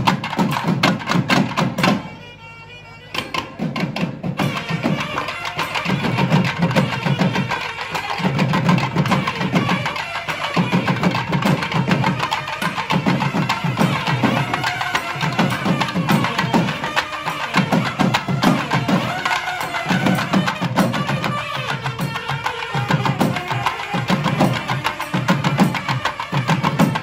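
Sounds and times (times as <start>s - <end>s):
drums playing fast rhythm: 0.0s - 2.1s, 3.3s - 27.0s.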